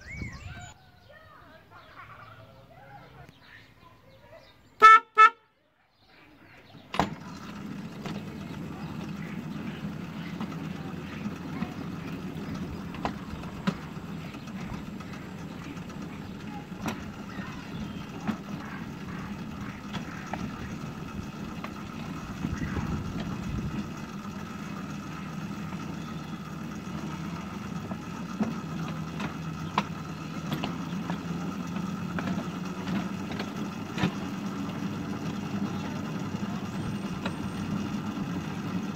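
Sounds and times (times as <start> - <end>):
locomotive engine humming: 0.0 - 5.4, 6.2 - 38.9
wheels clicking on track: 0.0 - 38.9.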